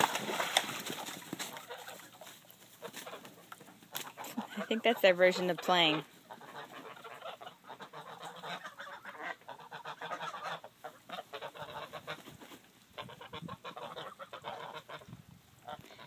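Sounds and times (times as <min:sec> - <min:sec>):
geese honking and gabbling: 0:00.0 - 0:16.0.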